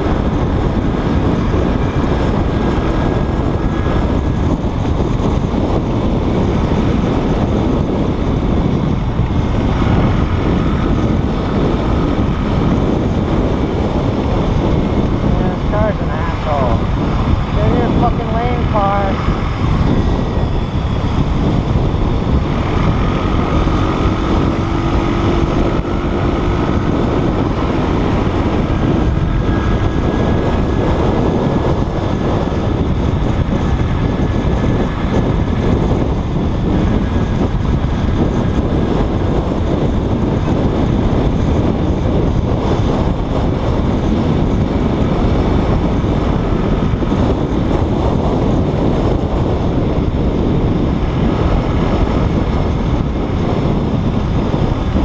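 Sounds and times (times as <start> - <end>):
motorbike engine and tyres: 0.0 - 55.0
wind rushing over microphone: 0.0 - 55.0.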